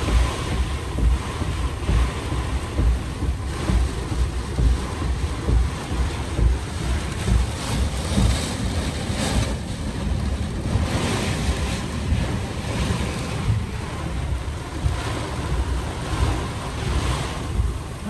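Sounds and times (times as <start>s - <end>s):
heavy rain: 0.0s - 18.0s
strong gusting wind: 0.0s - 18.0s
wind buffeting microphone: 0.0s - 18.0s.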